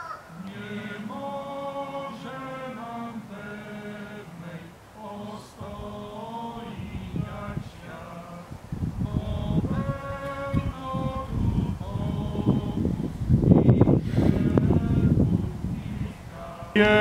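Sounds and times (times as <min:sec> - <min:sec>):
congregation singing a hymn: 0:00.3 - 0:17.0
low rumbling noise: 0:00.3 - 0:17.0.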